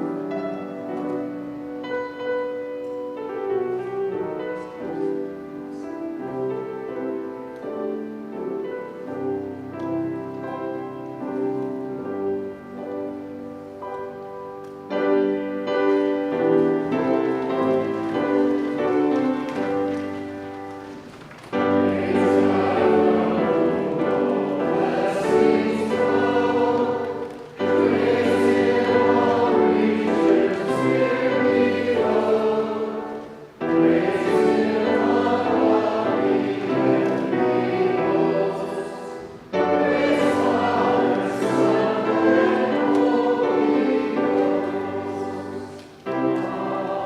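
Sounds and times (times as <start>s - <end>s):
choir singing a hymn: 0.0s - 47.0s.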